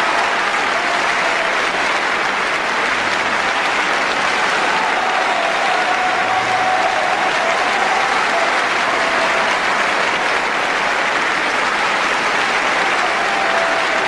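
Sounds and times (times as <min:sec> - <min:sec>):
audience clapping: 0:00.0 - 0:14.0.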